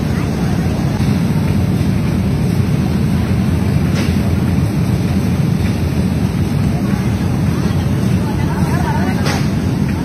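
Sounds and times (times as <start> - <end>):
furnace rumbling: 0.0 - 10.0.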